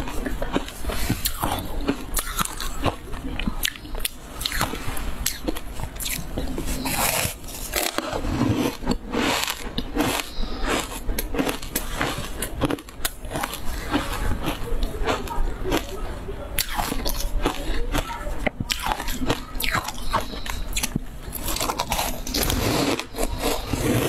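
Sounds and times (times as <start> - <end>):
crunchy food chewing: 0.0 - 24.0.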